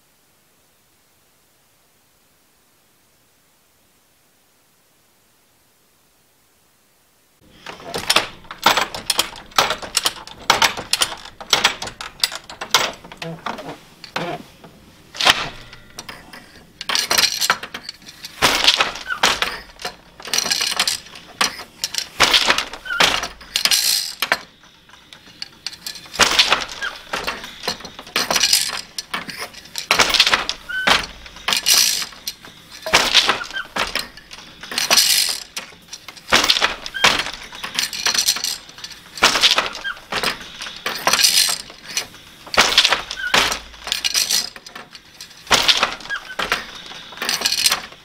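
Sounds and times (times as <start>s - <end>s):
loom shafts clattering: 7.4s - 48.0s
loom beater knocking: 7.6s - 48.0s.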